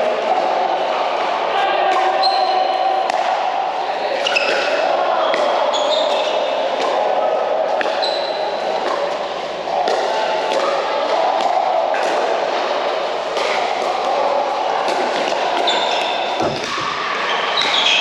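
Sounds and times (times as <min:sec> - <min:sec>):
din of busy indoor hall: 0:00.0 - 0:18.0.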